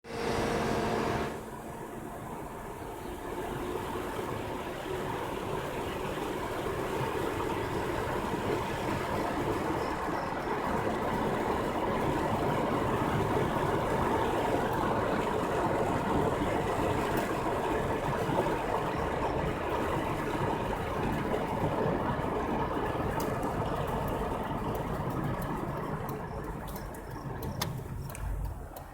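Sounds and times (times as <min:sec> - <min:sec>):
vehicle engine and road noise: 0:00.0 - 0:28.9.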